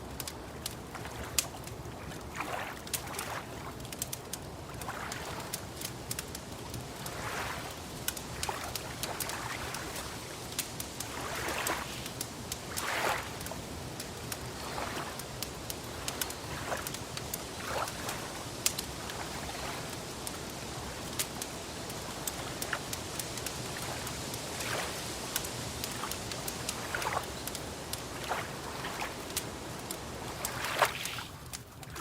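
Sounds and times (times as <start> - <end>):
wood fire crackling: 0.0 - 32.0
lake water lapping: 0.5 - 32.0.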